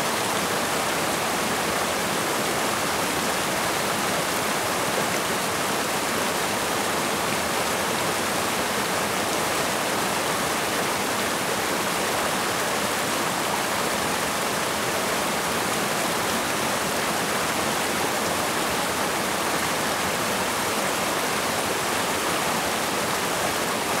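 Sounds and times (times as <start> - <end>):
stream rushing over boulders: 0.0 - 24.0.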